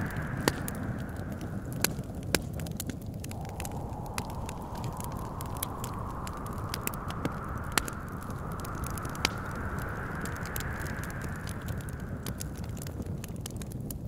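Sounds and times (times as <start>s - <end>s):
wind rushing: 0.0s - 13.9s
wood fire crackling and popping: 0.0s - 14.0s.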